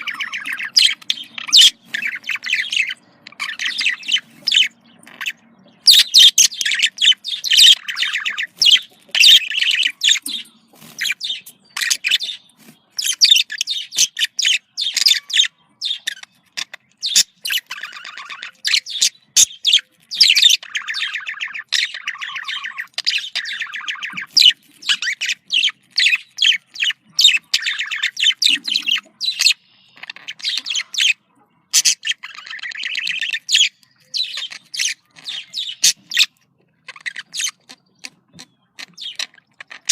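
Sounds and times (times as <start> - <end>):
budgerigar chirping and trilling: 0.0 - 39.9.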